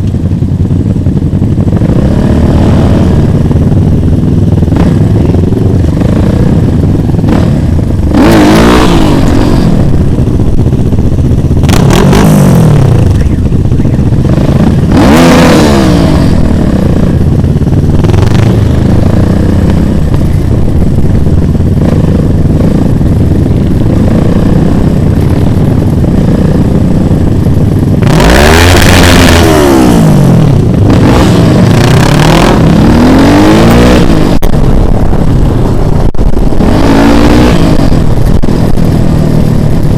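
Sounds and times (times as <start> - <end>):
motorcycles passing by: 0.8 - 39.9.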